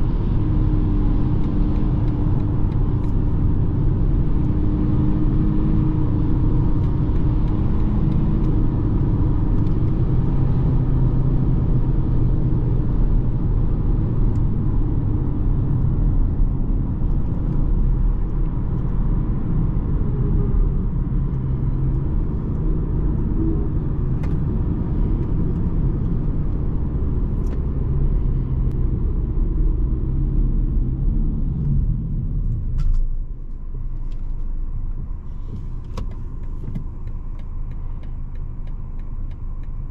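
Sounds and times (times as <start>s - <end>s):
diesel car engine driving: 0.0s - 39.9s
road noise: 0.0s - 39.9s.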